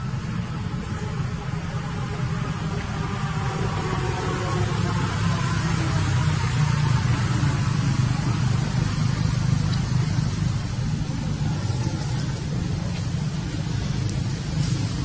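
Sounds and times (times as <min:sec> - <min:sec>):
constant hiss: 0:00.0 - 0:15.0
steady low rumble: 0:00.0 - 0:15.0.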